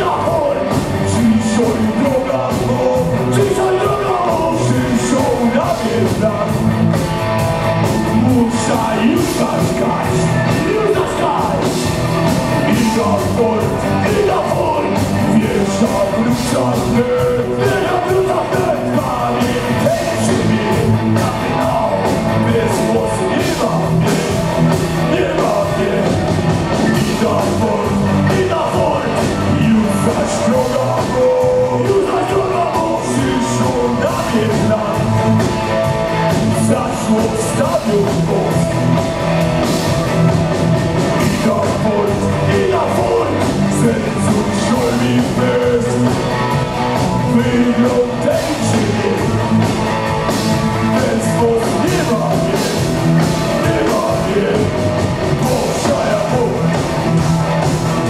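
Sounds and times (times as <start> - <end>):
person singing into a microphone: 0.0 - 6.6, 8.0 - 11.9, 12.6 - 35.5, 36.5 - 38.7, 41.2 - 49.8, 50.8 - 56.9
drums: 0.0 - 58.0
electric guitars: 0.0 - 58.0.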